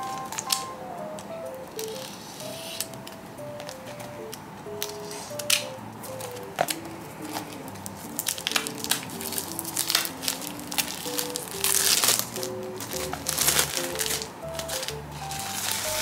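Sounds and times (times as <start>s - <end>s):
soft background music: 0.0s - 16.0s
plastic shrink wrap crinkling: 1.8s - 4.1s, 4.8s - 16.0s.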